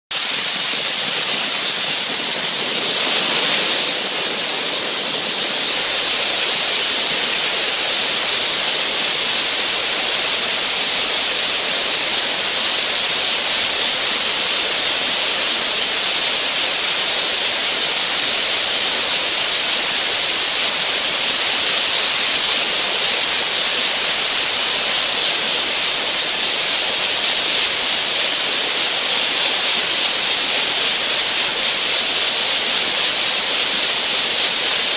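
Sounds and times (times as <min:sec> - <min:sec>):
soda blaster hissing: 0:00.1 - 0:34.9.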